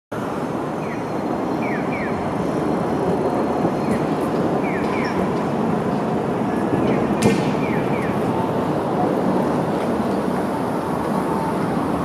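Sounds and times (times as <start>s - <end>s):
city traffic noise: 0.1s - 12.0s
tram running past: 0.2s - 12.0s.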